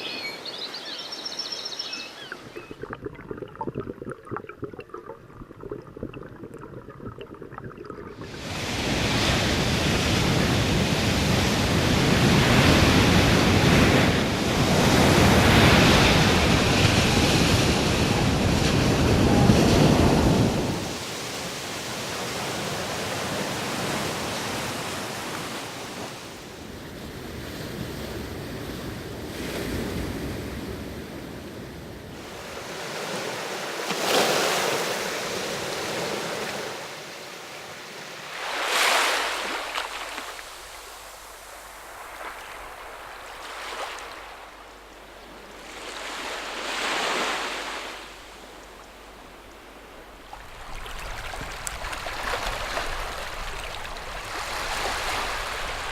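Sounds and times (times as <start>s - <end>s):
sea waves breaking on shore: 0.0s - 30.9s, 32.0s - 55.9s.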